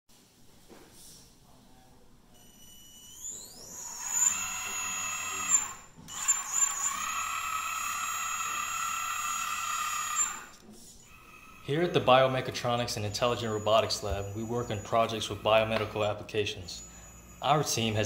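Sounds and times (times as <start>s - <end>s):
hydraulic pump motor whine: 2.4s - 18.0s.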